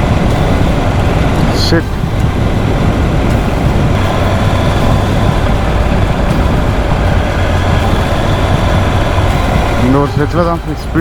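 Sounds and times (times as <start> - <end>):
motorcycle engine: 0.0 - 11.0
wind rush on microphone: 0.0 - 11.0.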